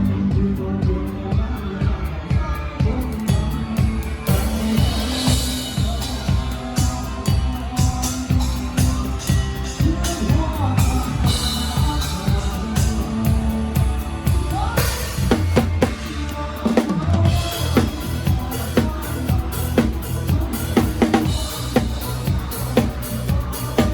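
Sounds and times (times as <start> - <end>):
bass and keyboard notes: 0.0 - 23.9.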